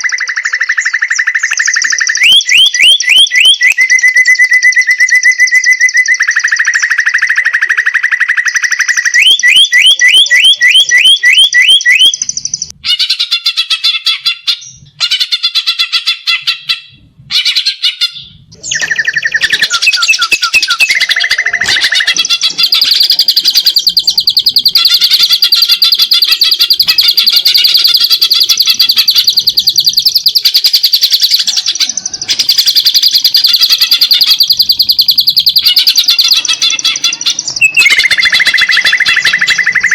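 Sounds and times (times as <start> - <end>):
bird singing whistled phrases: 0.0 - 13.2, 14.2 - 39.9
bird trilling: 0.0 - 39.9.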